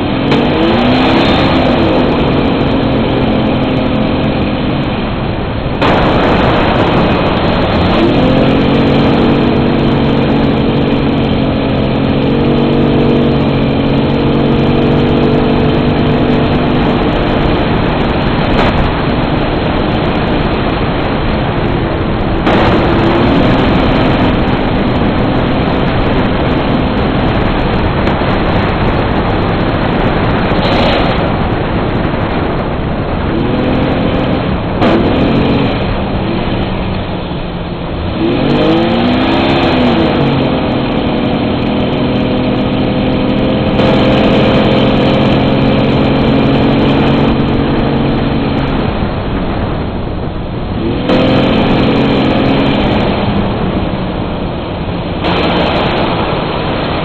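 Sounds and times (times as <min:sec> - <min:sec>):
car engine revving: 0:00.0 - 0:57.0
rushing and rumbling noise: 0:00.0 - 0:57.0.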